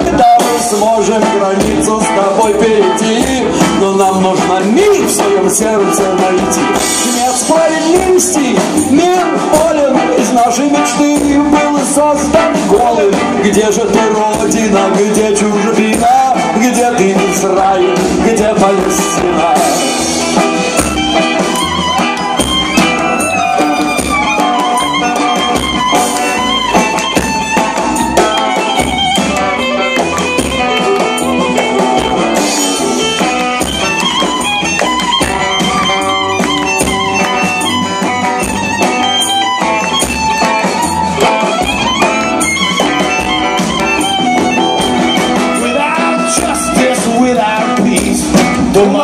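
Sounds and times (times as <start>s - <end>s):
live band playing klezmer music: 0.0s - 49.0s.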